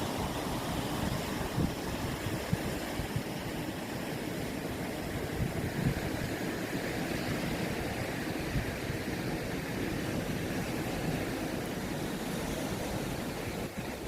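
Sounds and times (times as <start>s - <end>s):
low surf rumble: 0.0s - 14.0s
waves breaking: 0.0s - 14.0s.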